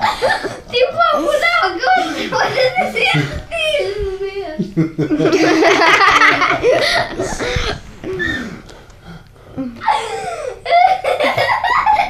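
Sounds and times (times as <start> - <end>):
children laughing: 0.0 - 8.5, 9.8 - 12.0.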